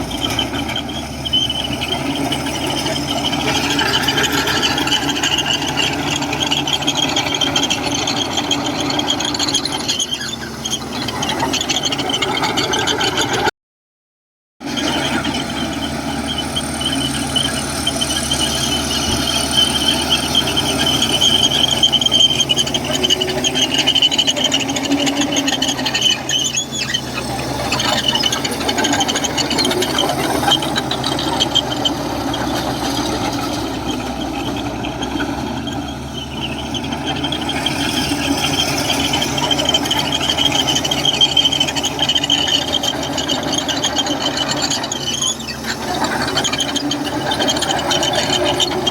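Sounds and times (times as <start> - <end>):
diesel engine running: 0.0 - 13.5, 14.6 - 48.9
metallic track squeal: 0.0 - 13.5, 14.6 - 48.9.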